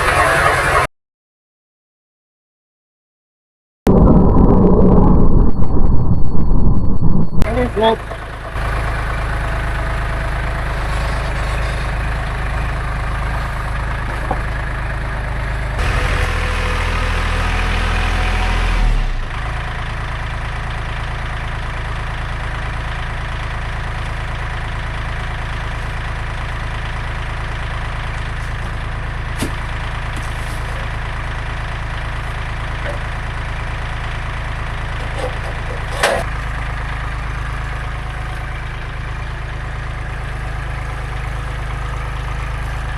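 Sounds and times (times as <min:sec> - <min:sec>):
engine idling: 0:07.5 - 0:42.9.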